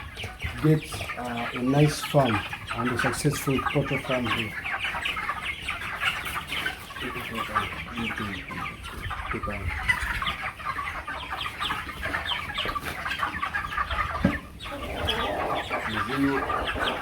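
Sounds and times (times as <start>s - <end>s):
chickens clucking and cheeping: 0.0s - 17.0s.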